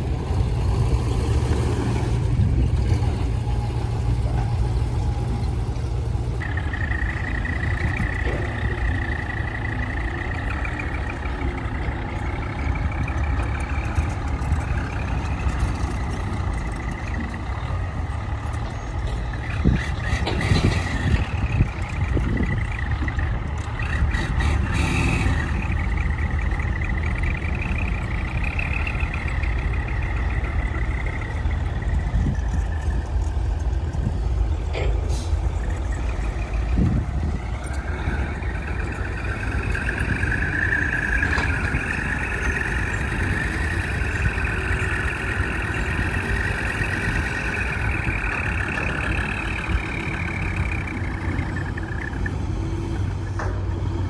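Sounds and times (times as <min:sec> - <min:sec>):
diesel engine rumble: 0:00.0 - 0:54.0.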